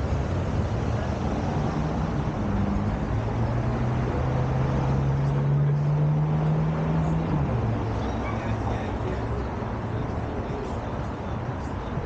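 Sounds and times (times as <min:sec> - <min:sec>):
outdoor background noise: 0:00.0 - 0:12.0
vehicle engine humming: 0:00.0 - 0:12.0.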